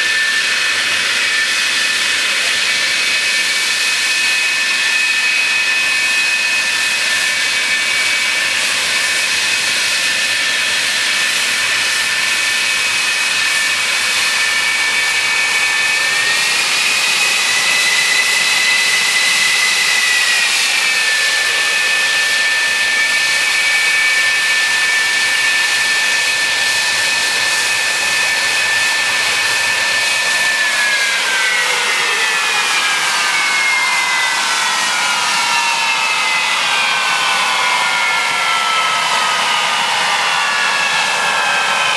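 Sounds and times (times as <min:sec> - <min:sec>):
jet engines rushing and whining: 0:00.0 - 0:41.9.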